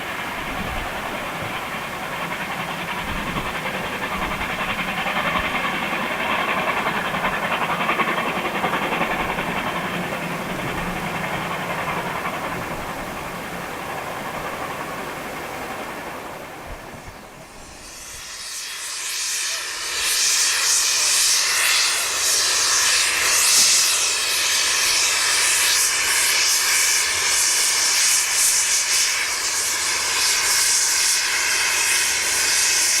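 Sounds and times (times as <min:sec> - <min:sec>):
steam train running: 0:00.0 - 0:33.0.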